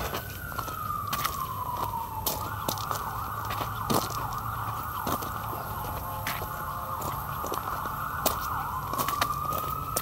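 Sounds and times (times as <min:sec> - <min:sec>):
emergency vehicle siren: 0:00.0 - 0:10.0
footsteps crunching on gravel: 0:00.0 - 0:10.0.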